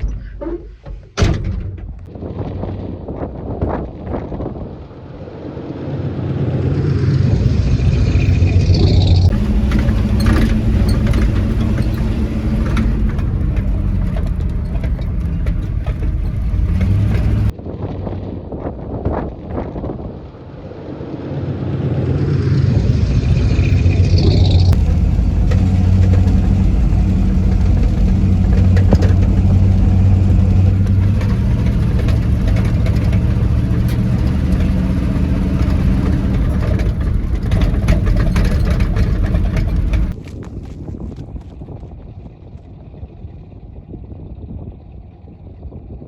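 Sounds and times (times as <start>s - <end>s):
pickup truck engine: 0.0s - 18.6s, 19.2s - 46.0s.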